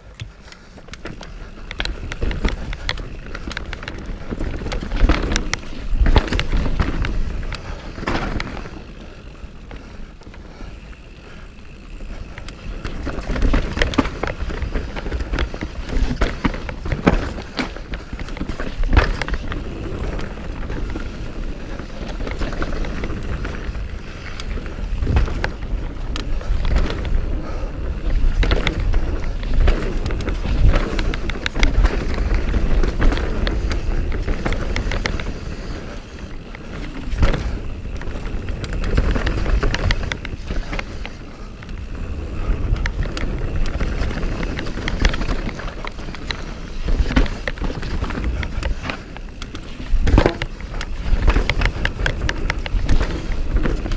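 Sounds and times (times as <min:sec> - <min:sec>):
bike knocking and rattling: 0:00.0 - 0:53.9
tyres rumbling on dirt: 0:01.0 - 0:53.9.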